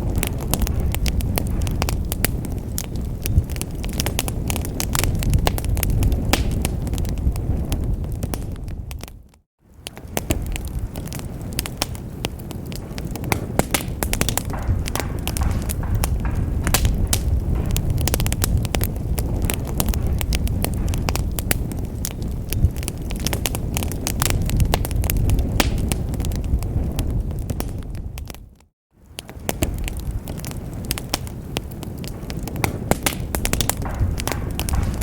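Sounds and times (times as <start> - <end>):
low rumble of burning logs: 0.0 - 35.0
wood fire crackling and popping: 0.0 - 35.0.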